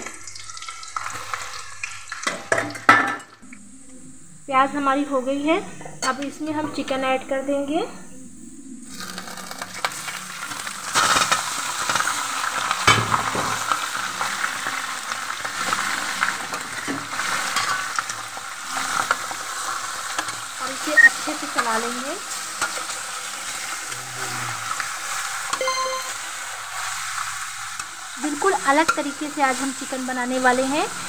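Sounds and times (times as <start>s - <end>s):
chicken sizzling in hot oil: 0.0s - 3.4s, 8.9s - 31.0s.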